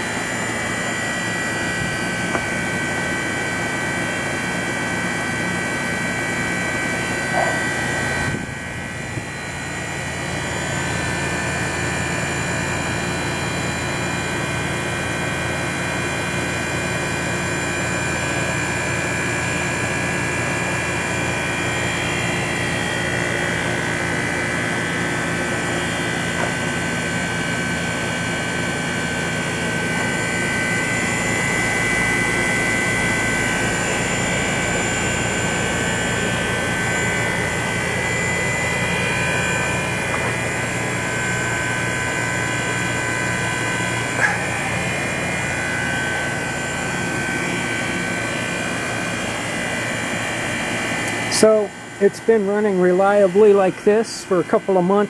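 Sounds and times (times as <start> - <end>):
air conditioner unit droning: 0.0 - 55.0.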